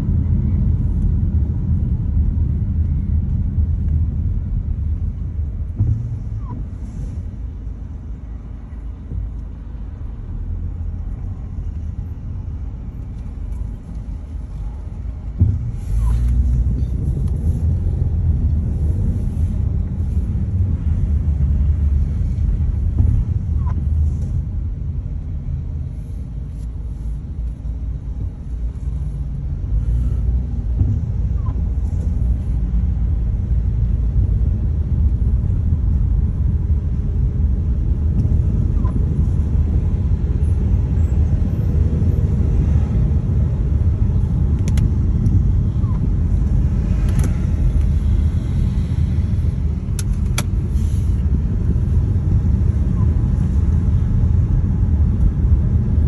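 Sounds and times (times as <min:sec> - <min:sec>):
car rumbling on the move: 0:00.0 - 0:56.0.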